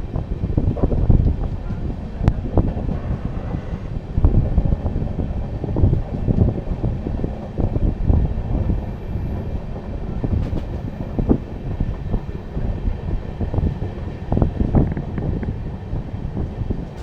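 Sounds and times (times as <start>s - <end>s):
train rumbling on rails: 0.0s - 17.0s
train wheels knocking: 0.0s - 17.0s.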